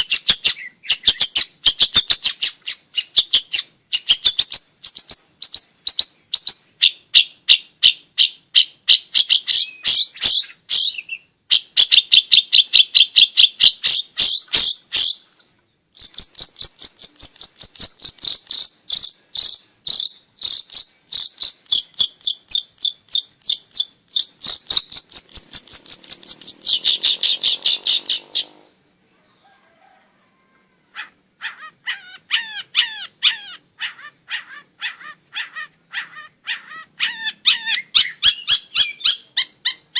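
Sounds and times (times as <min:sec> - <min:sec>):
shrike chattering song: 0:00.0 - 0:28.8, 0:30.9 - 0:39.9
falling yelping bird calls: 0:00.0 - 0:39.9.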